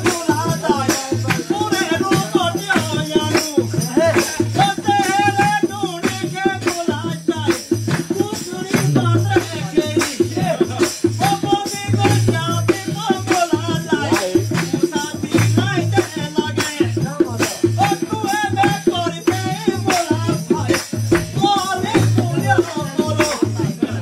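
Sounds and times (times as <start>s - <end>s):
quick rattling percussion beat: 0.0s - 24.0s.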